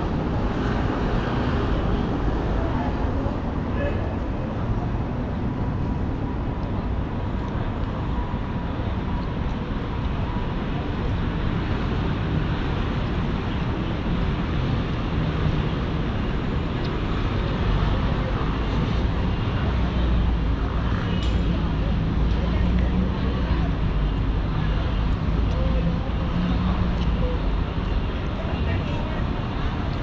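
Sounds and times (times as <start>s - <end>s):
distant traffic rumble: 0.0s - 30.0s.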